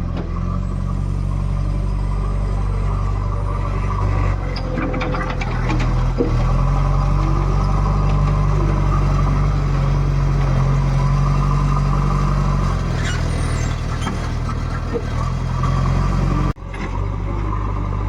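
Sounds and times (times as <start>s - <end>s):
backhoe loader diesel engine running: 0.0s - 18.0s.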